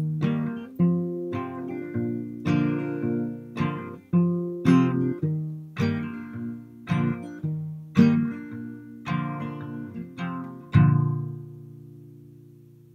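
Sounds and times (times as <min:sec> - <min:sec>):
acoustic guitar chords: 0:00.0 - 0:12.9.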